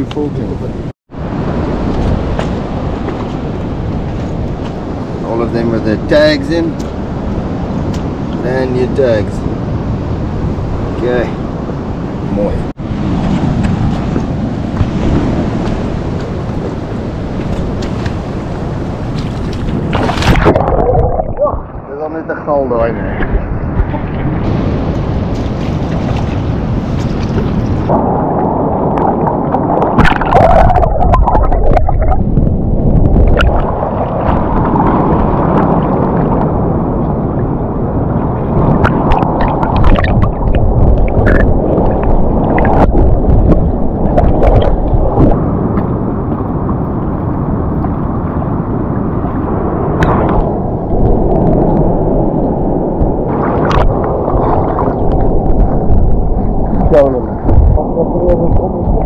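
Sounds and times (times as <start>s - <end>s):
muffled sea water sloshing: 9.4s - 58.0s.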